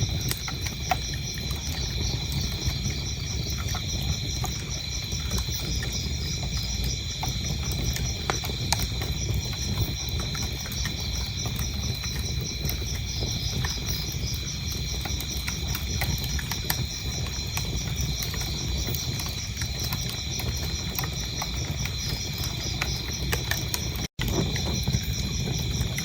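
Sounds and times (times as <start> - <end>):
crickets chirping: 0.0 - 26.0
wood fire crackling and popping: 0.0 - 26.0.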